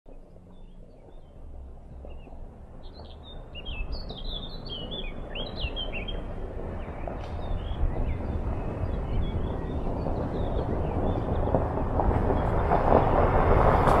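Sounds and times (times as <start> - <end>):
songbirds chirping: 0.1 - 13.0
low rumble: 0.1 - 14.0.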